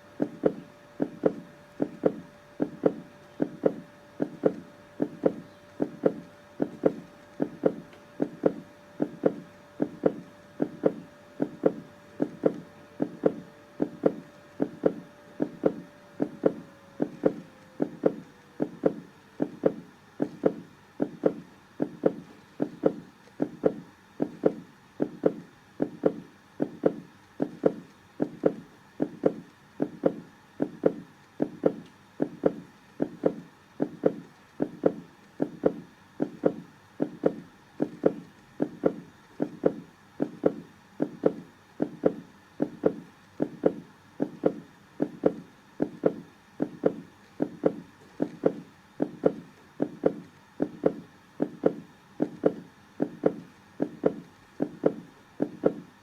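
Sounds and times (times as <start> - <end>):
human heartbeat thumping: 0.2 - 55.9.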